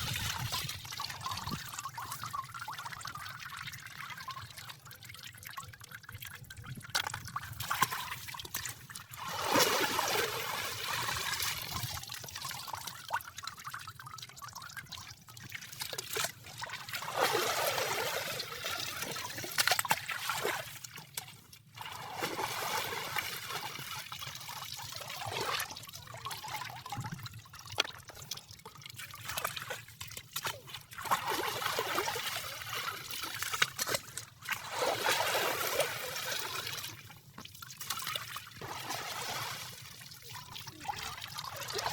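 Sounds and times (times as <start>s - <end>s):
small water splashes: 0.0s - 41.9s
water trickling and sloshing: 0.0s - 41.9s.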